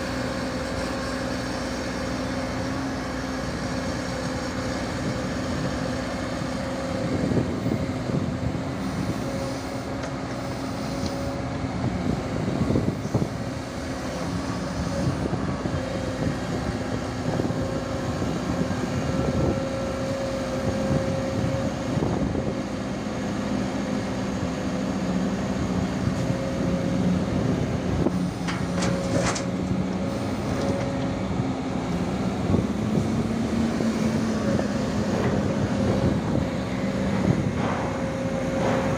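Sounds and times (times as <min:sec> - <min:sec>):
excavator engine droning: 0:00.0 - 0:38.9.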